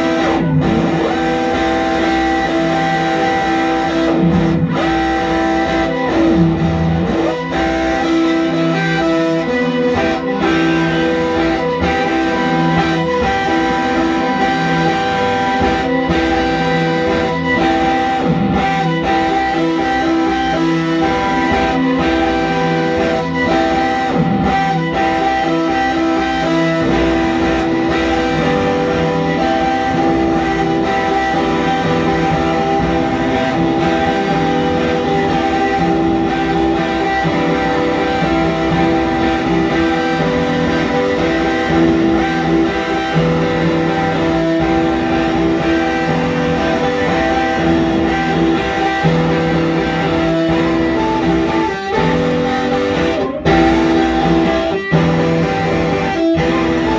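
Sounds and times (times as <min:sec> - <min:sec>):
electric guitar held notes: 0:00.0 - 0:56.9.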